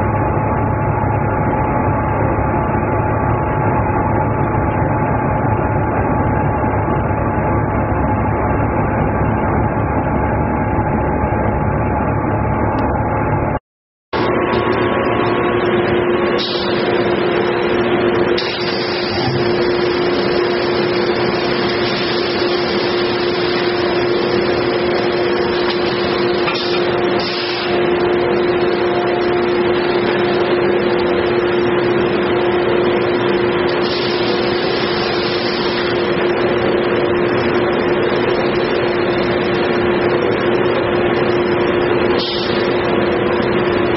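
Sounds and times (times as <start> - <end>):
machine running with constant hum: 0.0 - 43.9.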